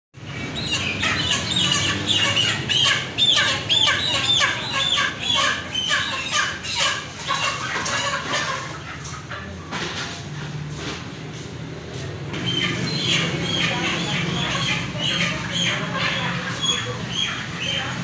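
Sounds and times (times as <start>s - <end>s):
chickens squawking: 0.2s - 11.4s, 12.3s - 18.0s.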